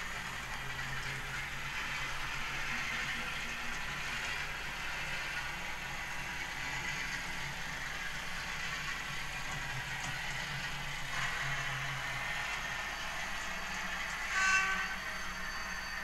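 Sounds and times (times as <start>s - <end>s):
model locomotive diesel engine sound: 0.0s - 16.0s.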